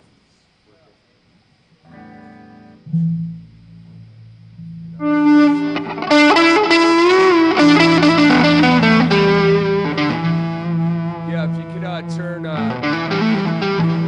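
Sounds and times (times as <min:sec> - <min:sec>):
low steady hum: 0:00.0 - 0:14.0
distorted electric guitar: 0:01.7 - 0:14.0.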